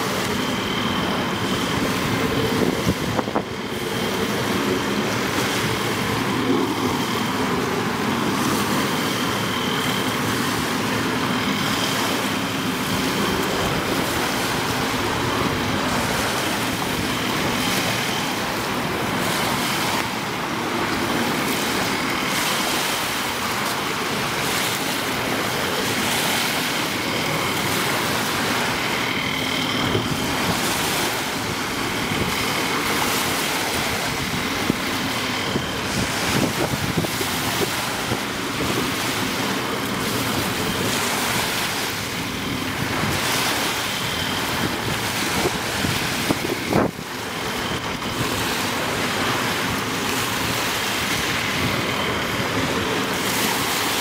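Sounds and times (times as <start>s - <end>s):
waves breaking on pebble beach: 0.0s - 54.0s
wind on microphone: 0.0s - 54.0s.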